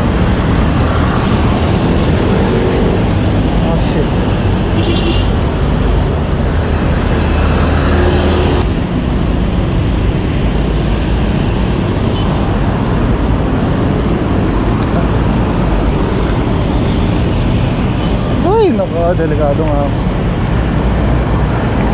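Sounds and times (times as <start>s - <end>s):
road traffic: 0.0s - 21.9s.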